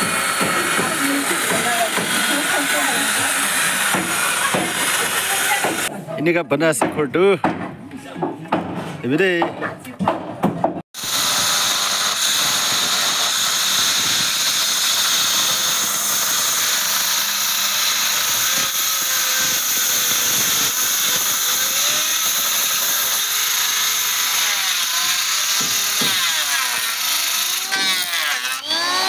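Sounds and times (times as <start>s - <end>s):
electric planer whine: 0.0s - 5.9s, 11.0s - 29.0s.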